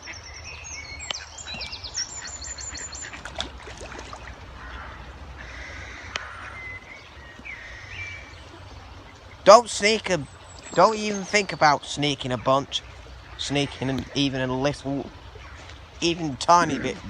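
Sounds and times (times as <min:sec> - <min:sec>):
ducks calling: 0:00.0 - 0:17.0
small birds chirping: 0:00.0 - 0:17.0.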